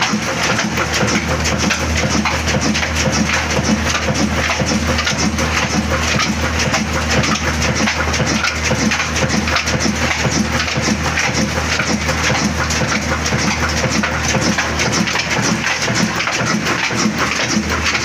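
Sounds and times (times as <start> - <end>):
diesel engine clattering: 0.0 - 18.0.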